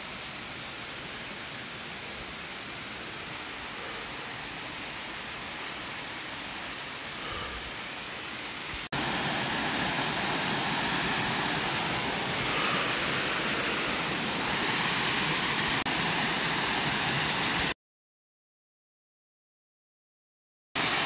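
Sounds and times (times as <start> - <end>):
waterfall rushing water: 0.0 - 17.8, 20.8 - 21.0.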